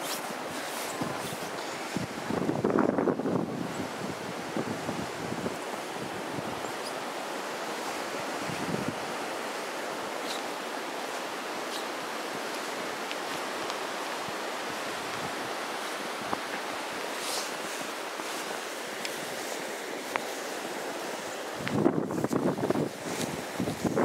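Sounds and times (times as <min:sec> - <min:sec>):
blizzard wind blowing: 0:00.0 - 0:24.0.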